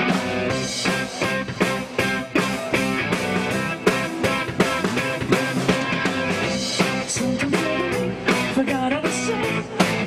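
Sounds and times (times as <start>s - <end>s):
live rock band playing: 0.0s - 10.0s
steady drum beat: 0.0s - 10.0s.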